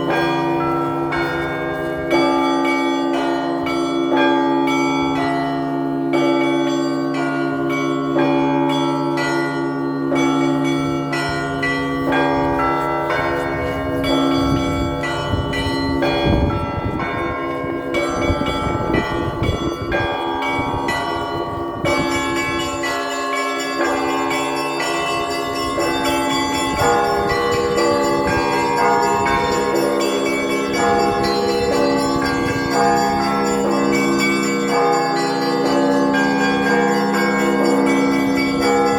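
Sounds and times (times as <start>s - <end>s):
deep bells humming: 0.0s - 38.9s.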